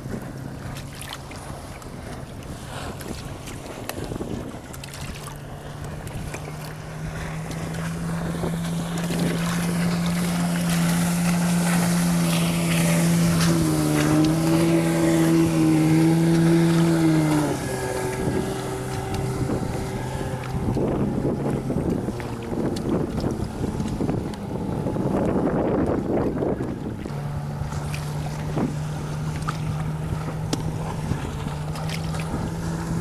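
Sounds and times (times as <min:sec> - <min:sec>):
outboard motor passing by: 0:00.0 - 0:33.0
wind and water noise: 0:00.0 - 0:33.0.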